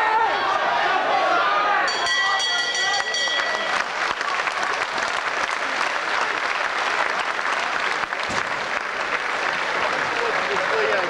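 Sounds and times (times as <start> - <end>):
crowd applauding: 1.9 - 11.0.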